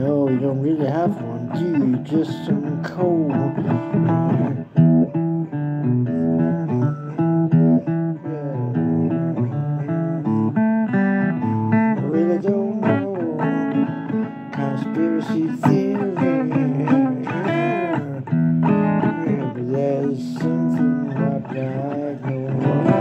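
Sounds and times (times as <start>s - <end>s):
blues guitar playing: 0.0s - 23.0s.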